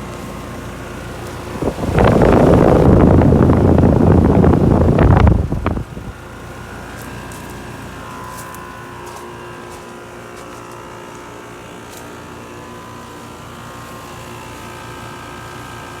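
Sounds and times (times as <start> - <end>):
air conditioner humming and whining: 0.0 - 16.0.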